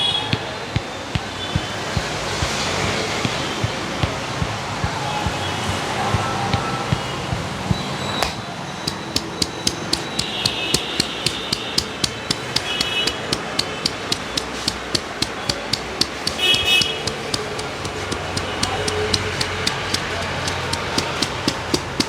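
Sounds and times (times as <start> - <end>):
hand tapping head massage: 0.8 - 22.0.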